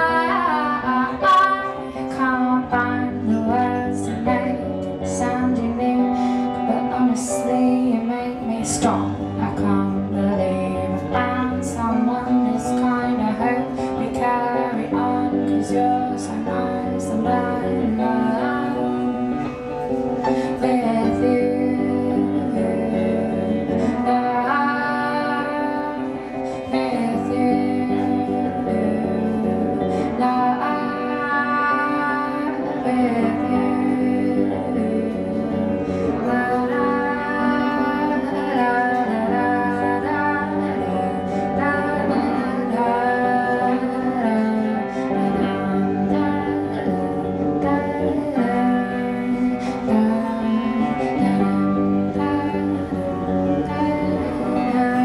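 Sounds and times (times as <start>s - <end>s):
guitar accompaniment: 0.0s - 55.0s
woman singing: 0.0s - 55.0s.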